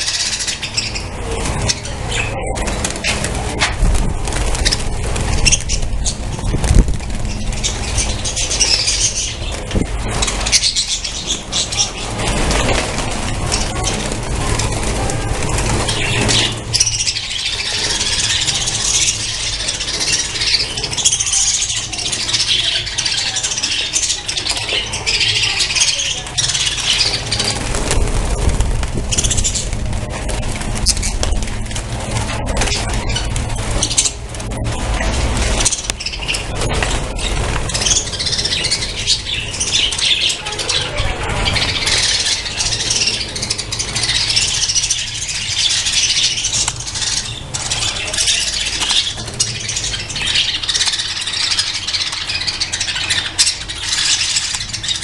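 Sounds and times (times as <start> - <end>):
steady low rumble: 0.0 - 23.7, 24.7 - 55.0
budgerigars chattering and squawking: 0.0 - 55.0.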